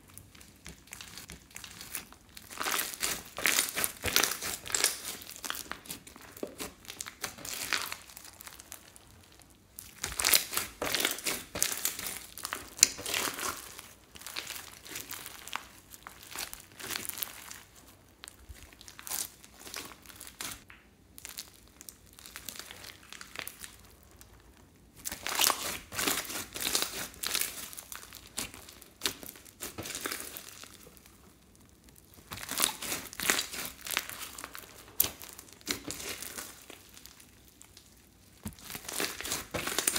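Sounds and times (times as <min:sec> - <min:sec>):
hands squishing bead slime: 0:00.0 - 0:39.9.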